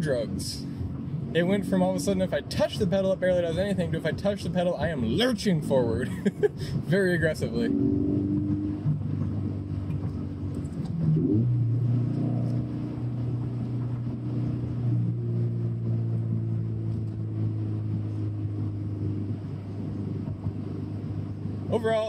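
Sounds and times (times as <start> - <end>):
car engine droning: 0.0 - 22.0
tyre and road noise: 0.0 - 22.0.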